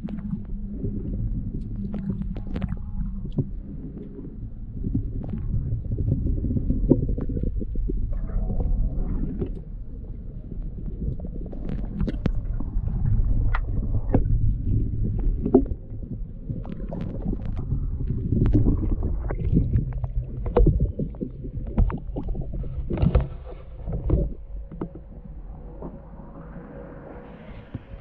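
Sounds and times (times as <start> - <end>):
faint steady hum: 0.0 - 28.0
muffled underwater rumble and sloshing: 0.0 - 28.0.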